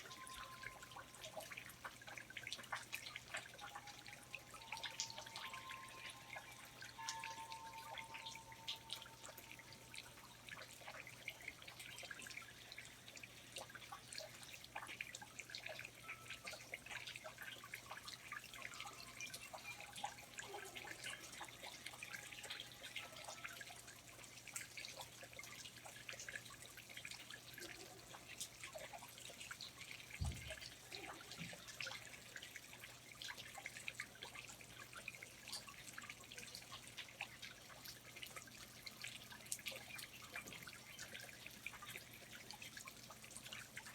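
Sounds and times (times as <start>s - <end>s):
water dripping from foliage: 0.0s - 43.9s.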